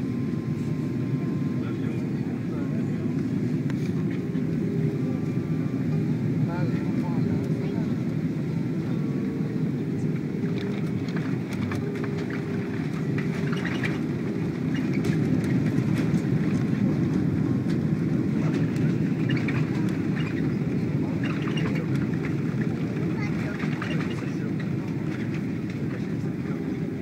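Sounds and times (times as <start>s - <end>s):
low rumble of engines and wheels: 0.0s - 27.0s.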